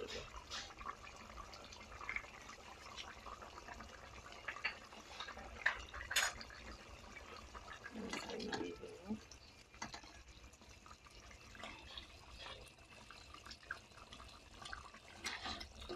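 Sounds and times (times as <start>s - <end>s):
curry bubbling in a pot: 0.0s - 15.9s.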